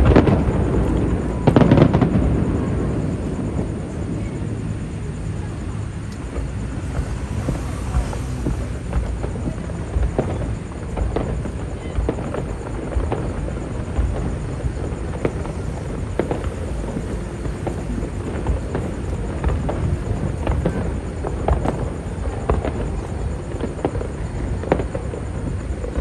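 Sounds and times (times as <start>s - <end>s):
fireworks bangs and pops: 0.0s - 26.0s
steady low rumble: 0.0s - 26.0s.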